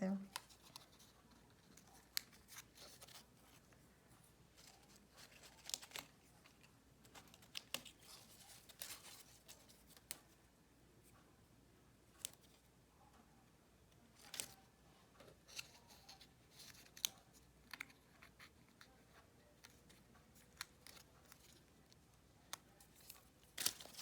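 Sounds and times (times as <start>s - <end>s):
paper rustling: 0.3s - 10.4s, 14.2s - 24.0s.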